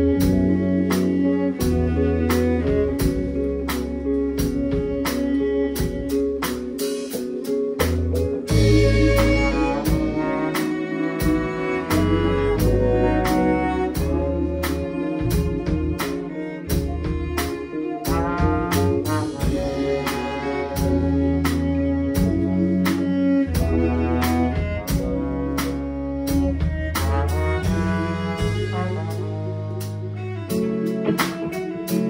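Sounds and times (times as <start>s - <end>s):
jazz fusion band playing: 0.0s - 32.0s
trombone: 0.0s - 32.0s
violin: 0.0s - 32.0s.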